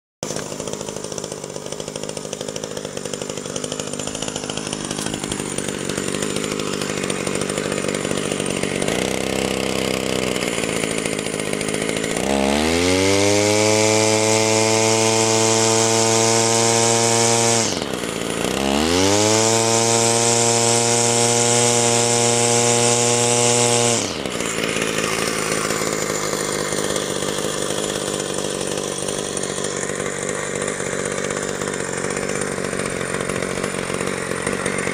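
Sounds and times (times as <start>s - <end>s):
two-stroke engine revving: 0.2s - 34.9s.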